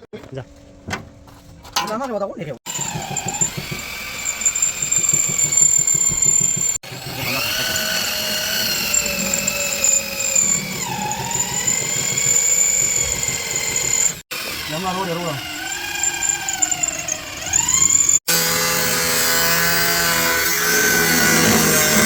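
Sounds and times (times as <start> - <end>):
power tool whining: 2.7 - 22.0.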